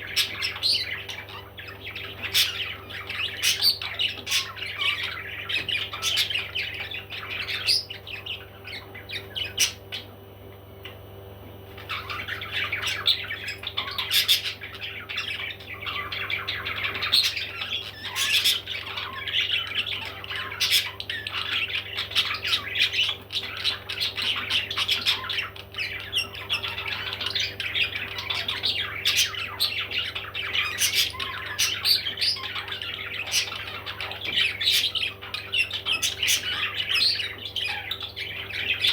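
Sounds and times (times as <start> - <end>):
parrots squawking and chattering: 0.0 - 38.9.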